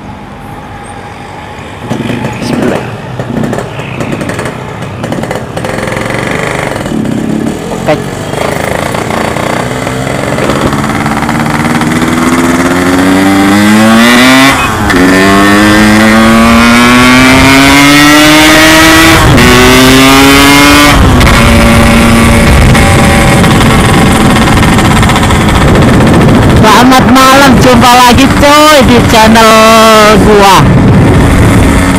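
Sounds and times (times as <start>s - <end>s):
motorcycle engine accelerating: 1.7s - 31.9s.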